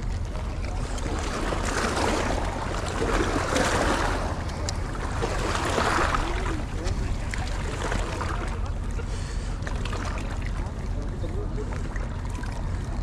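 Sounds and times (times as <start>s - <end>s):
small waves washing against rocks: 0.0s - 11.0s
wind rumble on microphone: 0.0s - 13.0s.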